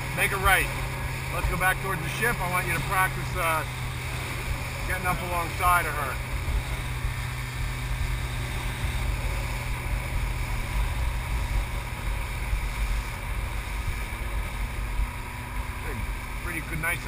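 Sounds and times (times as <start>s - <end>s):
wind buffeting microphone: 0.0s - 16.4s
boat engine drone: 0.0s - 17.0s
water rushing along hull: 0.0s - 17.0s.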